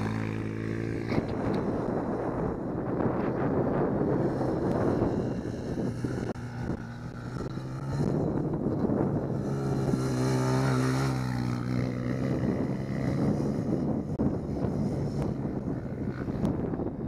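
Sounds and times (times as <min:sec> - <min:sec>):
quad engine droning: 0:00.0 - 0:17.0
wind noise on microphone: 0:00.0 - 0:17.0.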